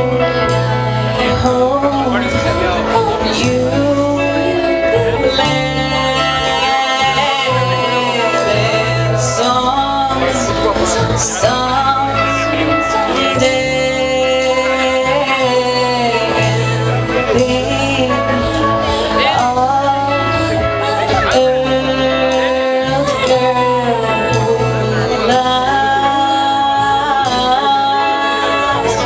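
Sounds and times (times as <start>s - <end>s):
guitar: 0.0s - 29.0s
held bass notes: 0.0s - 29.0s
person singing: 0.0s - 29.0s.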